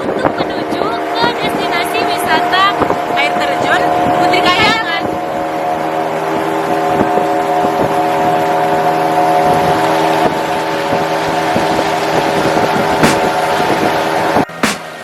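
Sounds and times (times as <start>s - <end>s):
boat engine droning: 0.0s - 15.0s
water: 0.0s - 15.0s
wind: 0.0s - 15.0s.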